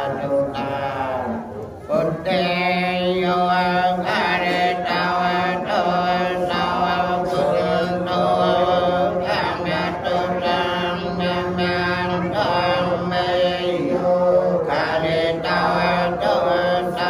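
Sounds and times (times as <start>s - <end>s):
monks chanting: 0.0s - 17.0s.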